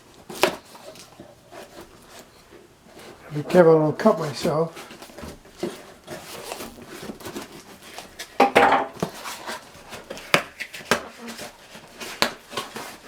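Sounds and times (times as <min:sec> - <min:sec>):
cardboard box being unpacked: 0:00.0 - 0:08.4, 0:09.0 - 0:13.0
cardboard scraping or tearing: 0:00.0 - 0:08.4, 0:09.0 - 0:13.0.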